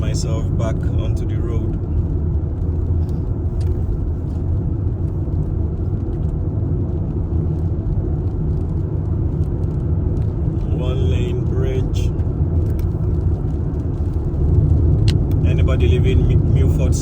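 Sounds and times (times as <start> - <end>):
vehicle engine and tyre rumble: 0.0 - 17.0.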